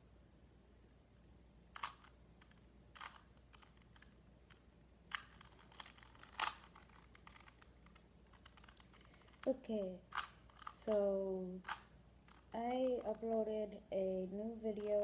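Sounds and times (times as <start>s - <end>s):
puzzle cube layers clicking: 1.2s - 13.5s, 14.7s - 15.0s.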